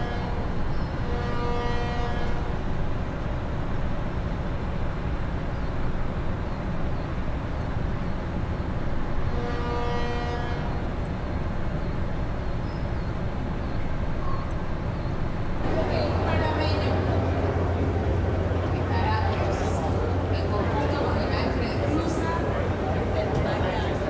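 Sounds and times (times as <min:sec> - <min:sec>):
electric locomotives rumbling: 0:00.0 - 0:24.0.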